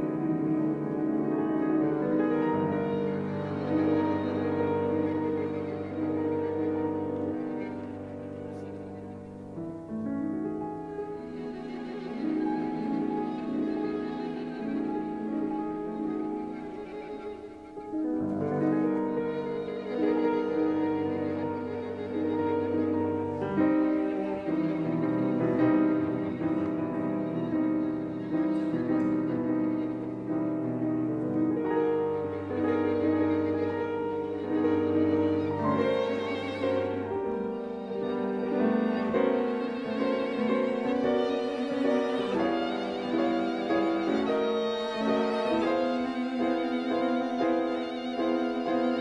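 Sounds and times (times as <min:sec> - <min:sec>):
piano trio chamber music: 0:00.0 - 0:49.0.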